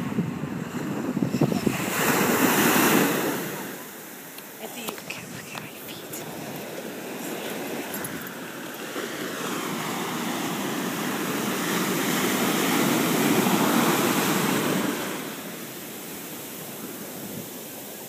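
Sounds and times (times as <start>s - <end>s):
surf washing over sand: 0.0s - 18.0s.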